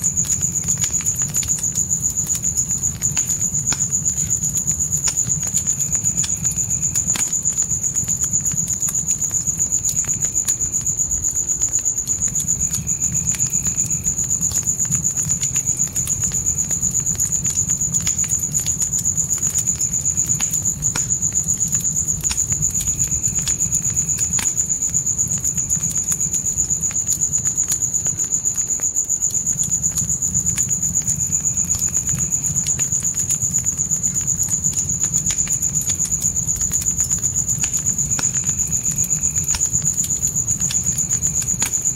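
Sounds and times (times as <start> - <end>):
campfire crackling: 0.0 - 41.9
crickets chirping: 0.0 - 41.9.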